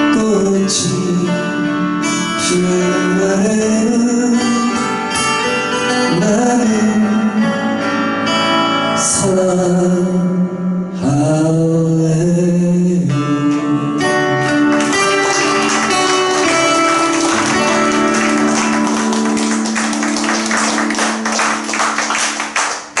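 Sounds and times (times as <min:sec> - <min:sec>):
acoustic guitar folk song: 0:00.0 - 0:22.0.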